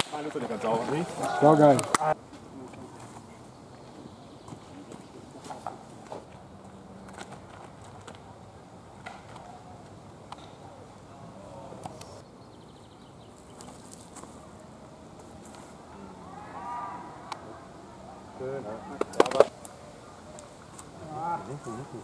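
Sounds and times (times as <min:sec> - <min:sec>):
faint distant voices: 0:00.0 - 0:22.0.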